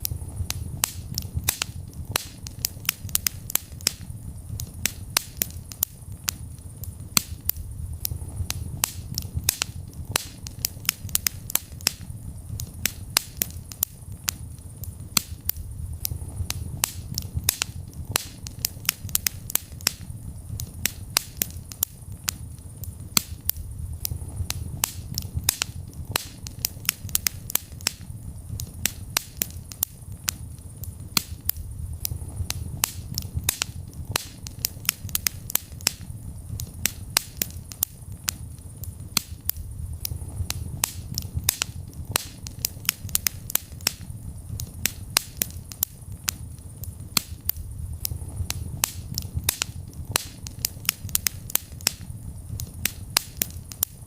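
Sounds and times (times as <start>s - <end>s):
fire crackles and pops: 0.0s - 54.0s
low rush of flames: 0.0s - 54.0s.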